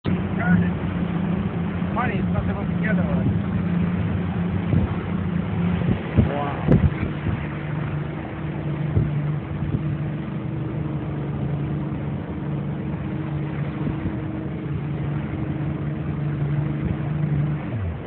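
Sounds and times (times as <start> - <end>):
motorboat engine idling: 0.0 - 18.0.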